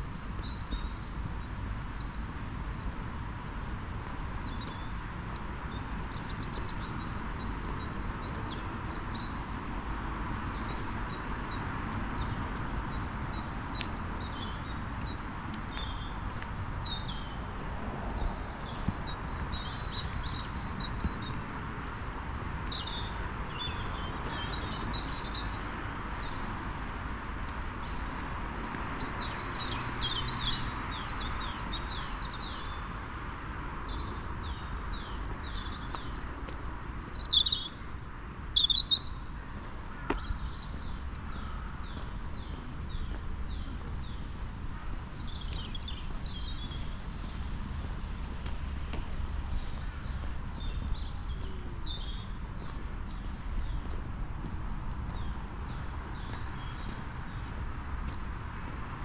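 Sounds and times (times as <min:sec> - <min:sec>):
songbirds chirping and singing: 0:04.4 - 0:59.0.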